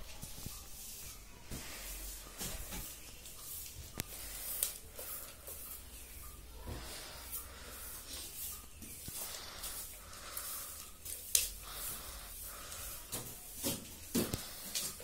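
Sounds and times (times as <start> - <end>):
broom swishing on floor: 0.0 - 15.0.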